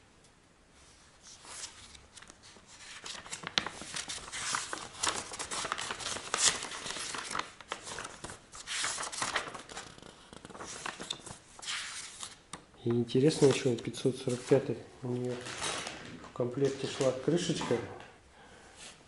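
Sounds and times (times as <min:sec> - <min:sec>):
paper pages turning: 0:01.2 - 0:17.9.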